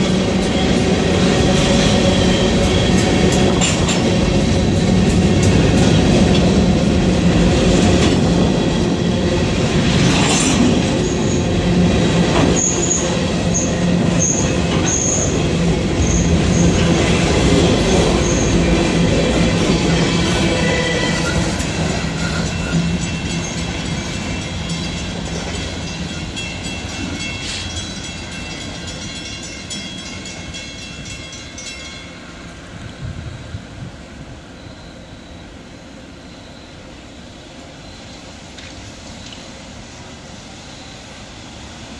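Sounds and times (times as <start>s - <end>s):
high squealing wheels: 0.0s - 31.8s, 34.3s - 41.9s
train wheels rumbling on rails: 0.0s - 41.9s.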